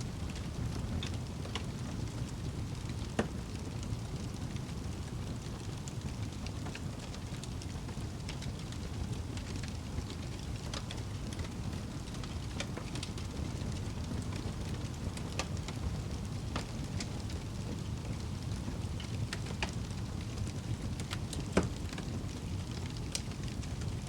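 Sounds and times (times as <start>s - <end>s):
burning logs crackling and popping: 0.0s - 24.0s
fire flames rumbling: 0.0s - 24.0s.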